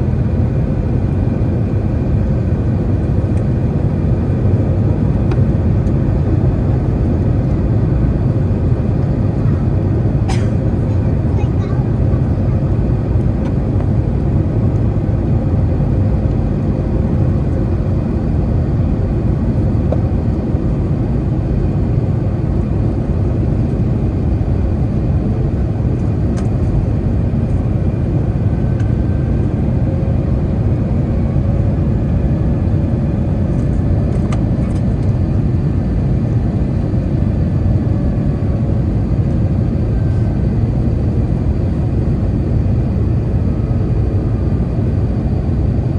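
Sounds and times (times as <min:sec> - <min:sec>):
airliner cabin engine roar: 0:00.0 - 0:45.9.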